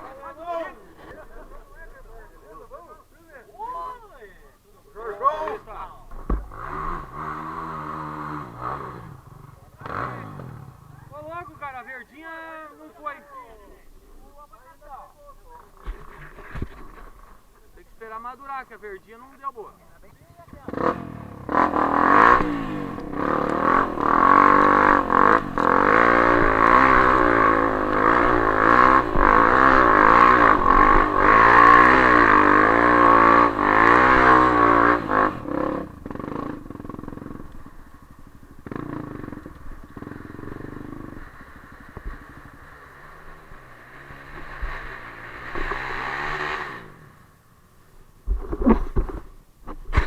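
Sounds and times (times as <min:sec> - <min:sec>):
dirt bike engine revving: 0:04.9 - 0:47.6.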